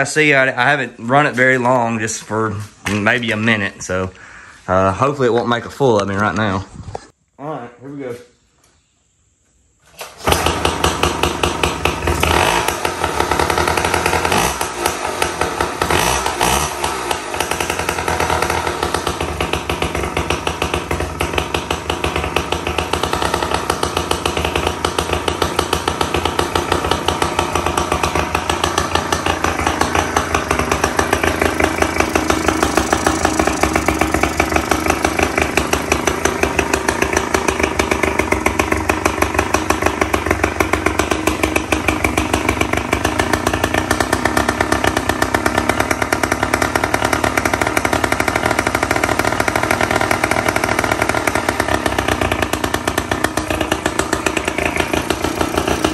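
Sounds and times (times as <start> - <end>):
outboard motor running: 10.2 - 55.9.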